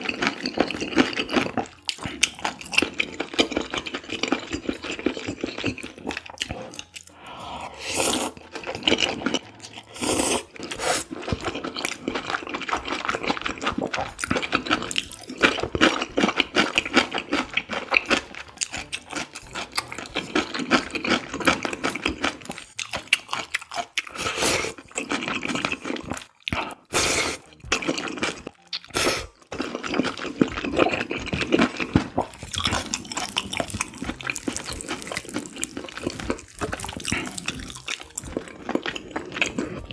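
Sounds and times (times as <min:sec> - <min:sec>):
man slurping and chewing noodles: 0:00.0 - 0:39.9.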